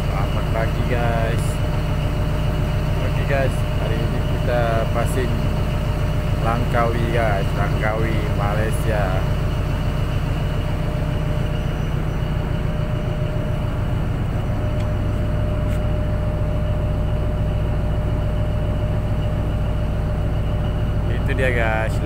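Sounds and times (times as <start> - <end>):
boat diesel engine rumbling: 0.0 - 22.0
thin steady whine: 0.0 - 22.0.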